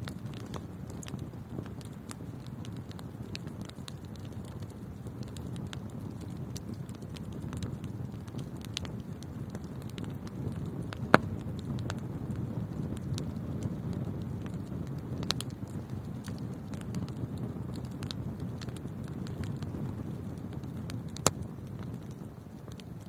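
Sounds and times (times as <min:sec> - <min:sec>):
fire crackling: 0:00.0 - 0:23.0
fire flames rumbling: 0:00.0 - 0:23.0.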